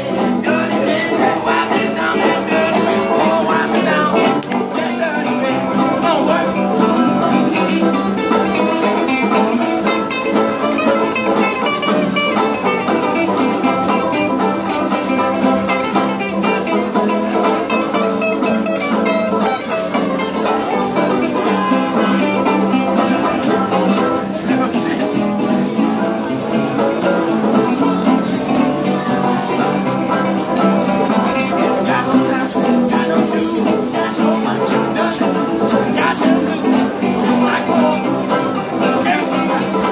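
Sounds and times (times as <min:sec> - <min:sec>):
acoustic guitars strummed: 0:00.0 - 0:39.9
banjos picked and strummed: 0:00.0 - 0:39.9.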